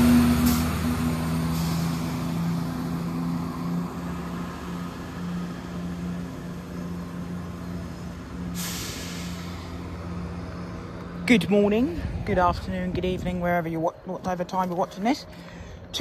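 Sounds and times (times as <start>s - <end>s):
diesel train engine drone: 0.0s - 16.0s.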